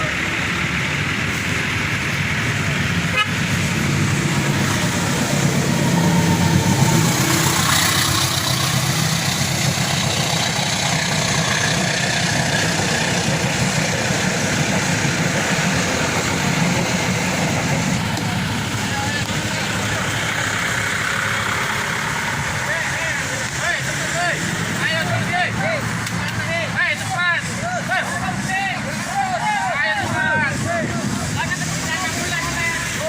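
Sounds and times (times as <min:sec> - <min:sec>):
car engines passing: 0:00.0 - 0:33.0
motorbike engines passing: 0:00.0 - 0:33.0.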